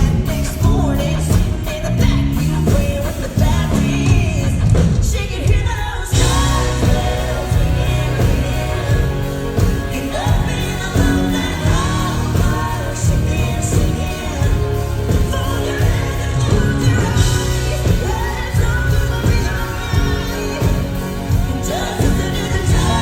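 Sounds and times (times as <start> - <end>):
band playing country-pop: 0.0 - 23.0
woman singing: 0.0 - 23.0.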